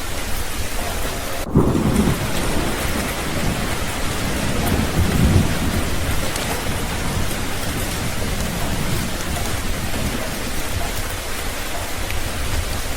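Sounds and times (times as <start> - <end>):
heavy rain: 0.0 - 12.9
thunder rumble: 0.0 - 12.9.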